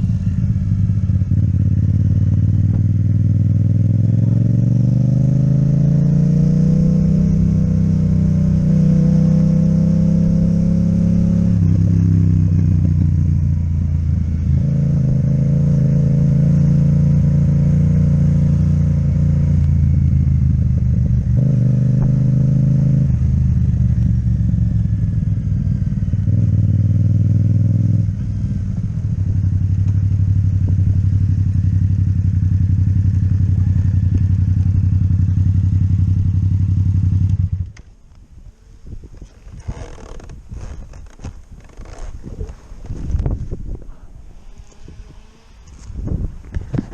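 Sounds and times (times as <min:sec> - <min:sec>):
motorcycle engine with gear changes: 0:00.0 - 0:46.9.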